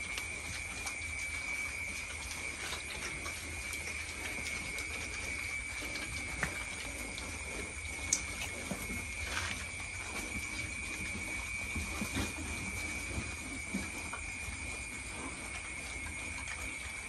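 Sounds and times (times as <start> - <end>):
pigs crunching dry feed: 0.0 - 17.0
steady high-pitched hum: 0.0 - 17.0.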